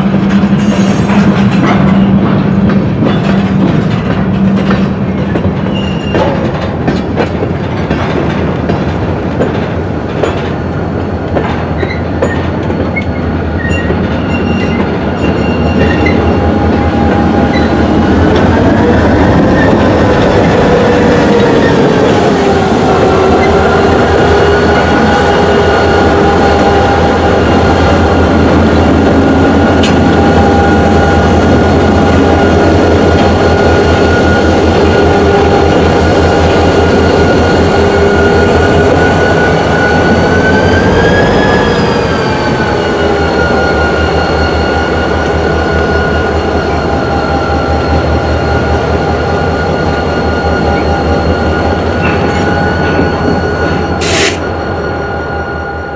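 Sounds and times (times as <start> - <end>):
diesel locomotive engines droning: 0.0 - 55.9.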